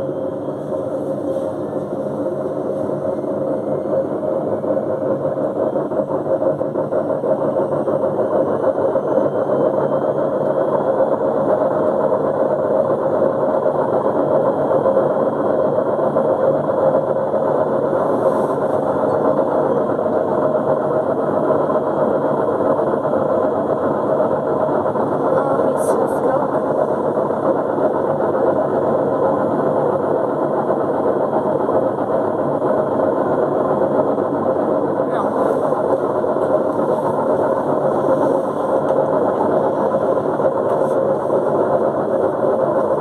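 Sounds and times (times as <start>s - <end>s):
washing machine rushing hum: 0.0s - 43.0s.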